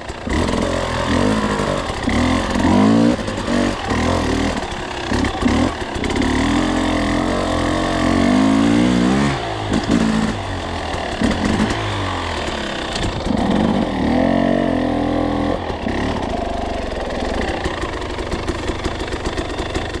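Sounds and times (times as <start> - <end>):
two-stroke dirt bike engine: 0.0 - 20.0.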